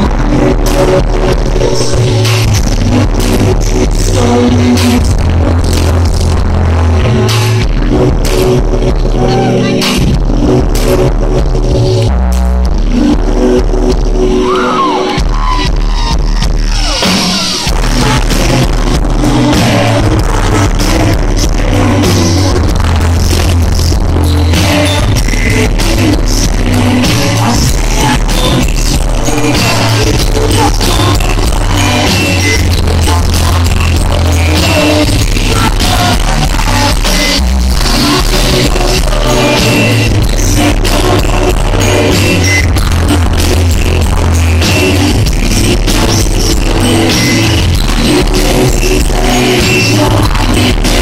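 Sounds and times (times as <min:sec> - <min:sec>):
drums beating: 0:00.0 - 0:51.0
heavy bass line: 0:00.0 - 0:51.0
rock band playing: 0:00.0 - 0:51.0.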